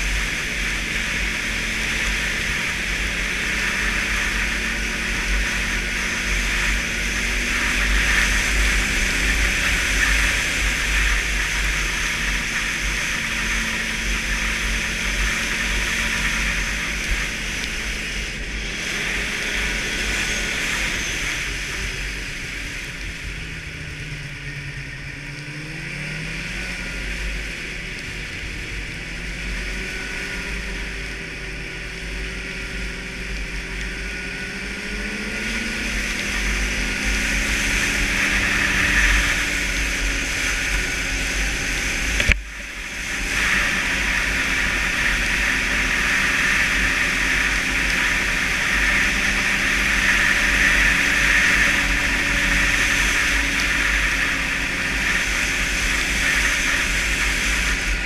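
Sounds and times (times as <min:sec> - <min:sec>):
rushing hiss of wind and track: 0:00.0 - 0:58.0
snowmobile engine running: 0:00.0 - 0:58.0.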